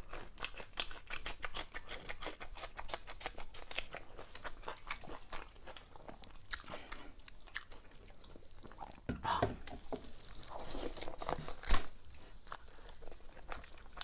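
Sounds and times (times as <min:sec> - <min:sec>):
wet chewing mouth sounds: 0:00.0 - 0:14.0.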